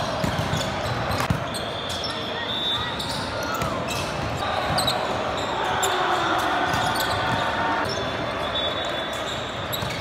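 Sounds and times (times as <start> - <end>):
sneakers squeaking on floor: 0.0 - 6.0, 6.6 - 10.0.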